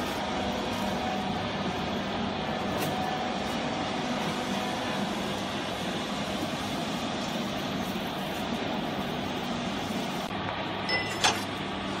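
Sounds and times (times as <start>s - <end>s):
electric machinery hum: 0.0s - 12.0s.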